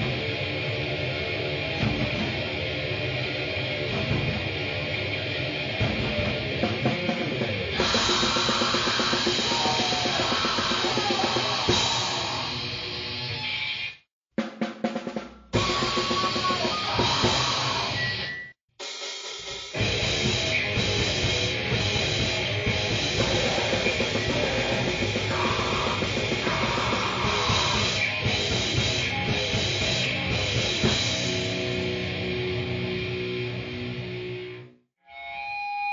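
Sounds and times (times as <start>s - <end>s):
pounding drum kit with cymbals: 0.0s - 13.4s, 14.4s - 33.8s
noise music with drums and guitar: 0.0s - 34.8s.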